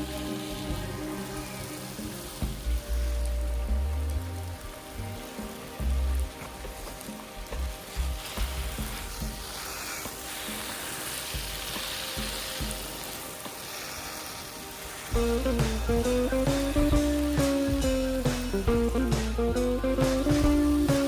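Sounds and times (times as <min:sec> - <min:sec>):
water spraying from garden hose: 0:00.0 - 0:21.0.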